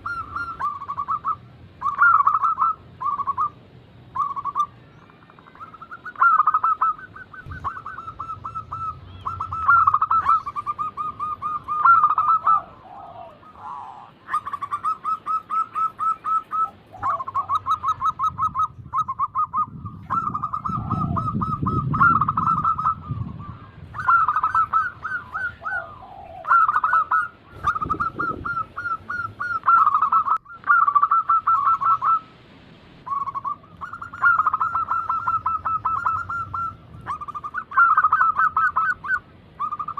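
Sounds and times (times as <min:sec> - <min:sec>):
doves cooing: 0:00.0 - 0:32.4, 0:33.0 - 0:39.9.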